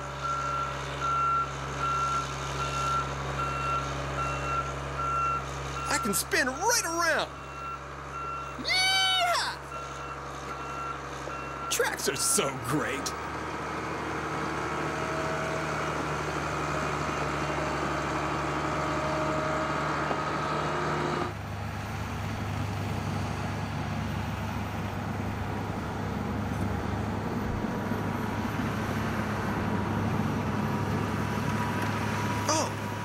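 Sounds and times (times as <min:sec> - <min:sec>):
snow groomer diesel engine: 0:00.0 - 0:33.0.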